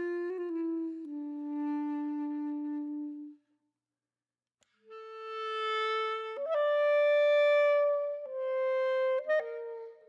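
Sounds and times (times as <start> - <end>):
wind instrument long held notes: 0.0 - 3.5, 4.9 - 10.0.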